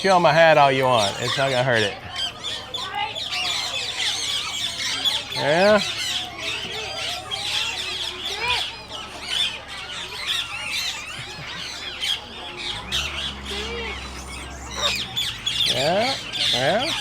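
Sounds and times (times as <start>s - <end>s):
parrots chattering and squawking: 0.4s - 17.0s.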